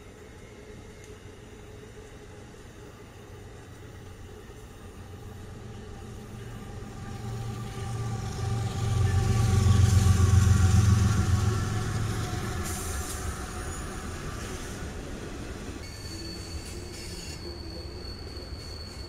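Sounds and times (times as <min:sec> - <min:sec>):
diesel locomotive engine rumble: 0:00.0 - 0:19.0
wheels hissing on rail: 0:01.4 - 0:19.0.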